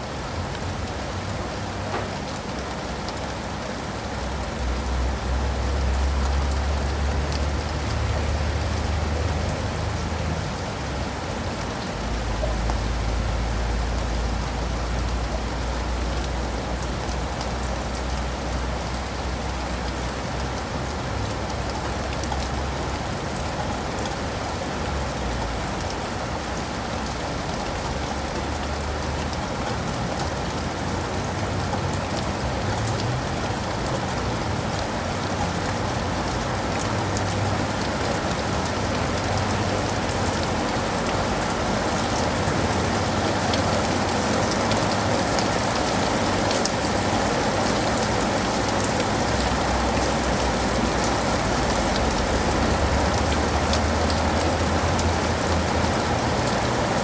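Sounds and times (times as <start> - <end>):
low rain rumble: 0.0 - 57.0
raindrops ticking close by: 0.0 - 57.0.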